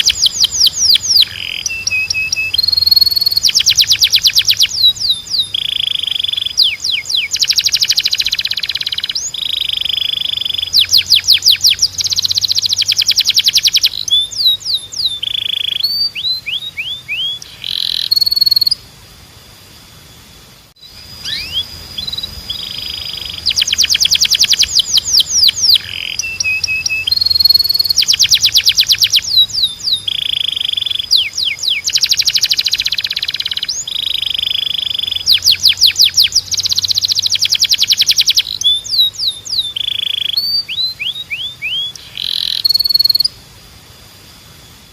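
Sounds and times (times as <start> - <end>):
canary singing: 0.0 - 18.8, 20.8 - 43.4.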